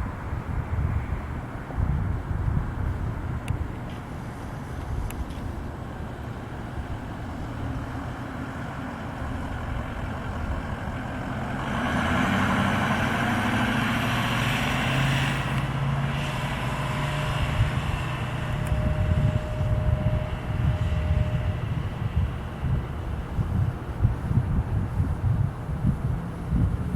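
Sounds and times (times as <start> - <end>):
road noise: 0.0 - 26.9
truck engine driving past: 2.9 - 25.2.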